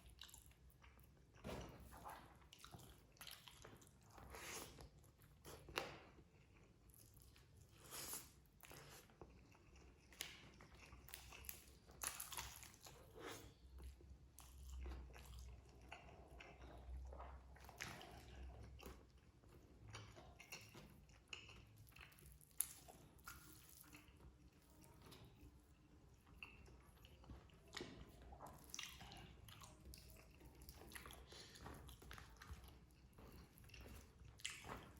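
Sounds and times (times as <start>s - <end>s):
person chewing food: 0.0s - 34.9s.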